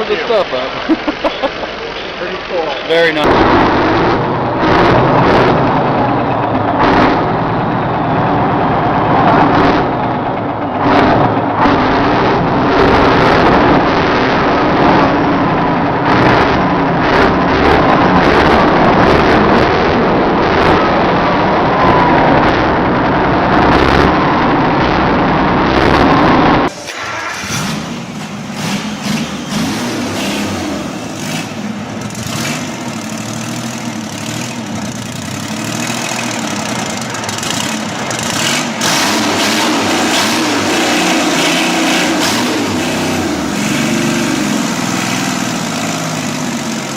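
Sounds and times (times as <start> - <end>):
quieter engine running: 0.0 - 21.7, 26.8 - 46.9
engine running with sharp knocks: 0.0 - 46.9.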